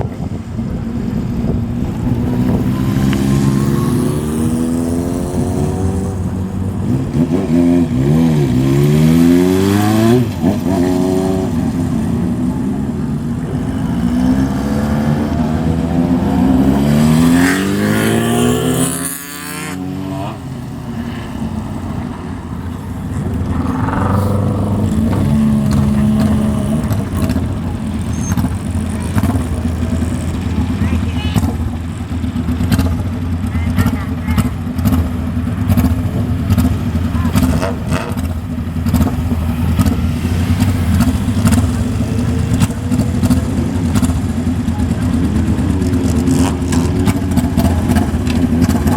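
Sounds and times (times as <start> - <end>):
motorcycles revving past: 0.0 - 48.9.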